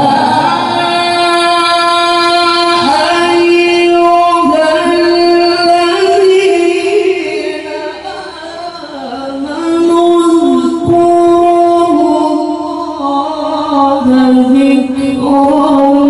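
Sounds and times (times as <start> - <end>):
man reciting melodically: 0.0 - 16.0.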